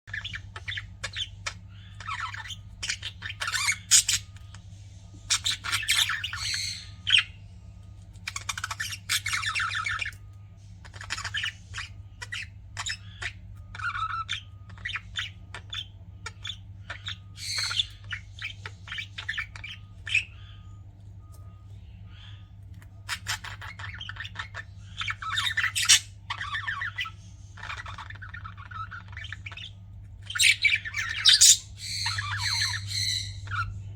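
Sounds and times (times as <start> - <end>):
steady low hum: 0.0 - 33.9
budgerigars chirping: 0.1 - 33.9.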